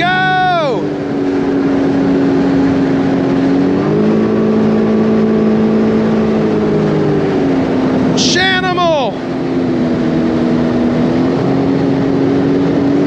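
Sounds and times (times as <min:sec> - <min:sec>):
water rushing: 0:00.0 - 0:13.0
watercraft engine running: 0:00.0 - 0:13.0.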